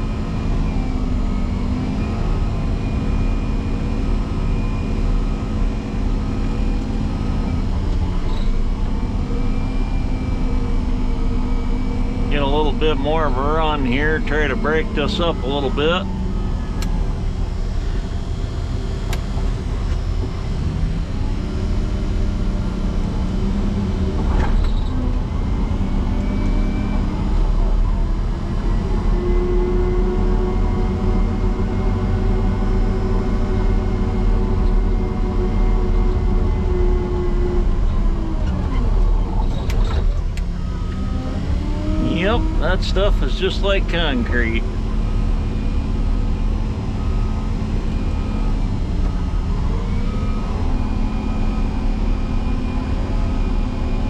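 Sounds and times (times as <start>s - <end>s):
diesel engine working under load: 0.0s - 54.0s.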